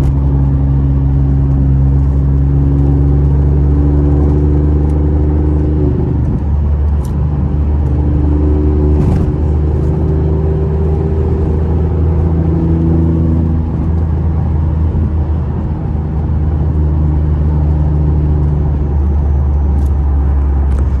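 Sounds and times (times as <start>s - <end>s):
car engine running under load: 0.0s - 21.0s.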